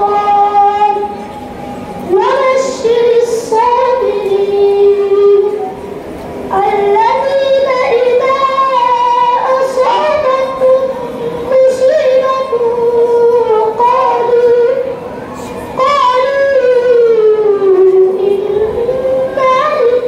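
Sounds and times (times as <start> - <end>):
child chanting melodically: 0.0 - 5.8, 6.5 - 20.0.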